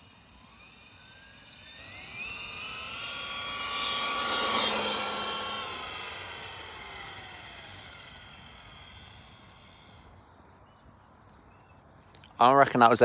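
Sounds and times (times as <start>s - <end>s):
toy truck electric motor whining: 0.0s - 10.4s.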